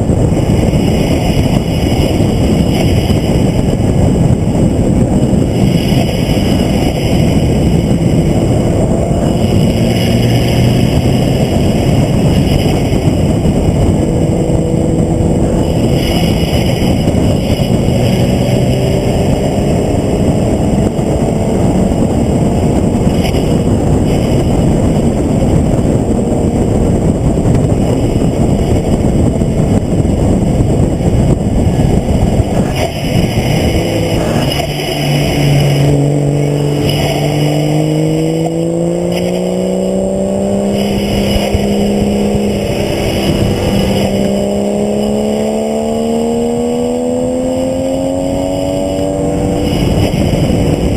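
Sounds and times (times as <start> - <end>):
road noise: 0.0 - 50.9
vehicle engine running hard: 0.0 - 50.9
wind noise: 0.0 - 50.9.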